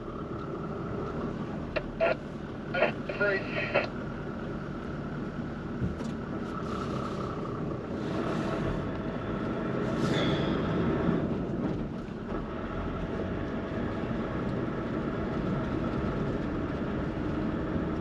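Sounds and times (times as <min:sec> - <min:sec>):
vehicle engine and tyres rumbling: 0:00.0 - 0:18.0.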